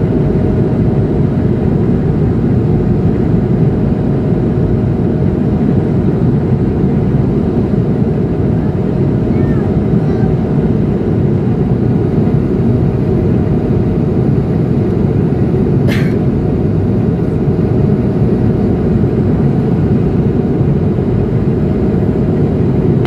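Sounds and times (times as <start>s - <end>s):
airplane cabin roar: 0.0s - 23.0s.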